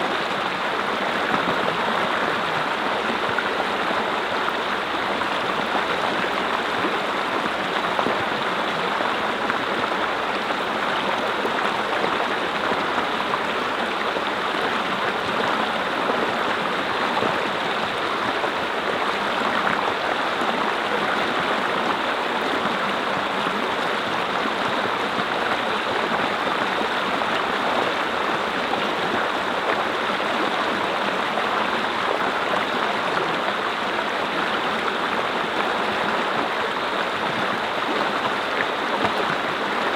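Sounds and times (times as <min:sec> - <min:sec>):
brook flowing over rocks: 0:00.0 - 0:39.9.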